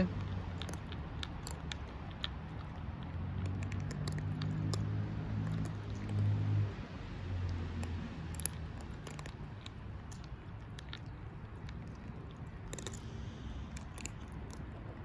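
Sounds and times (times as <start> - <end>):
cats crunching dry kibble: 0.0 - 15.0
low background rumble: 0.0 - 15.0.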